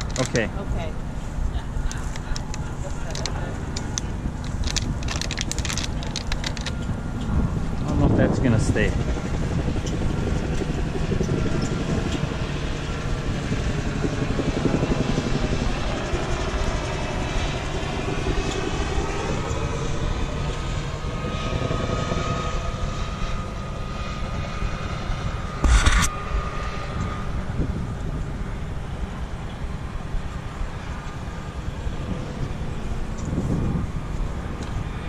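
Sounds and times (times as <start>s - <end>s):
propeller aircraft engine droning: 0.0s - 35.0s
steady rumble: 0.0s - 35.0s.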